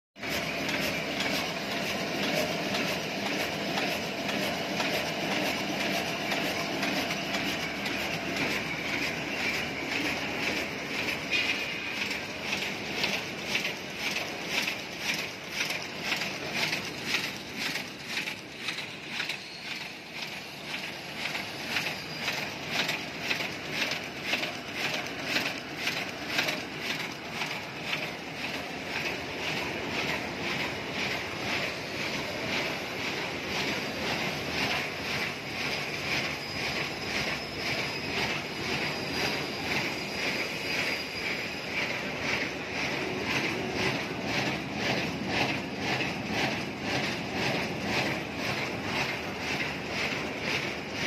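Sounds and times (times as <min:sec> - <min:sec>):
die-cutting machine clattering: 0:00.2 - 0:39.4, 0:41.8 - 0:51.0.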